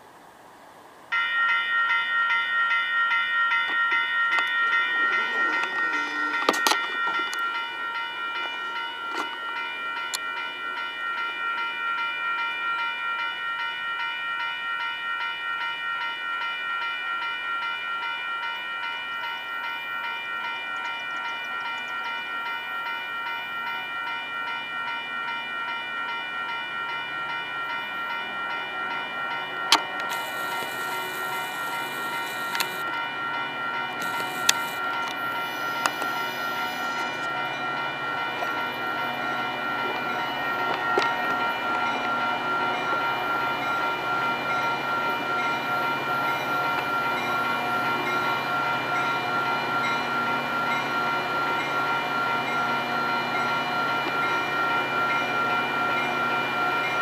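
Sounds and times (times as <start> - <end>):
railroad crossing warning bells: 0.0 - 57.0.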